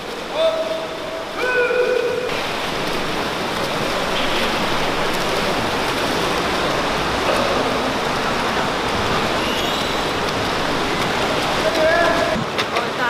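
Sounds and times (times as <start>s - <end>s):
swimmers splashing water: 0.0s - 13.0s.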